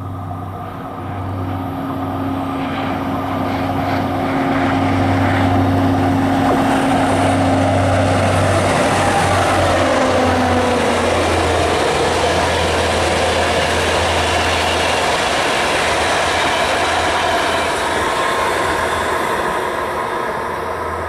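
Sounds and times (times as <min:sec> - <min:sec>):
diesel locomotive engine hum: 0:00.0 - 0:21.0
wheel-on-rail noise: 0:00.0 - 0:21.0.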